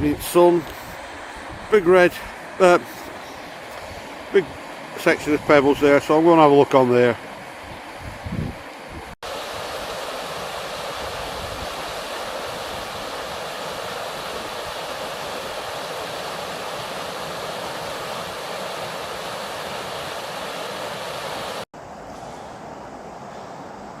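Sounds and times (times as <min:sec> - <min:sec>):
river water rushing: 0:00.3 - 0:08.0, 0:09.2 - 0:22.0.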